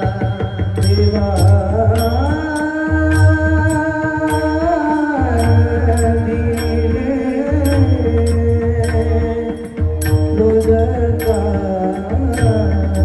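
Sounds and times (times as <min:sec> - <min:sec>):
drumming: 0:00.0 - 0:13.0
person singing devotional song: 0:00.0 - 0:13.0
sharp struck percussion: 0:00.0 - 0:13.0.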